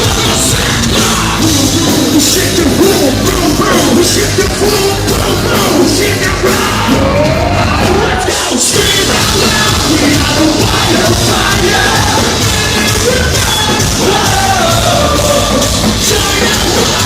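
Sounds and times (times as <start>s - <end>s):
bass guitar: 0.0s - 17.0s
distorted electric guitars: 0.0s - 17.0s
drums: 0.0s - 17.0s
shouted vocals: 0.0s - 17.0s.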